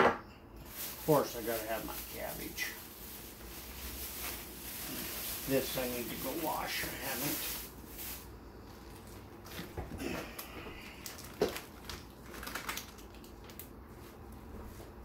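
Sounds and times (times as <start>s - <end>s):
plastic bag crinkling: 0.6s - 14.2s.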